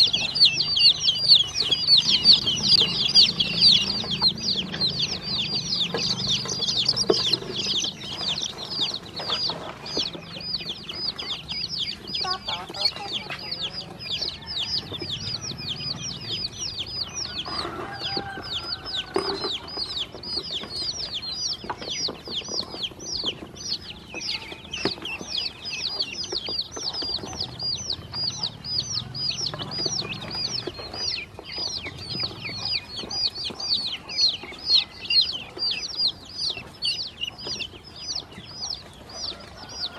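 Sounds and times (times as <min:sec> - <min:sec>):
chicks and ducklings peeping: 0:00.0 - 0:39.9.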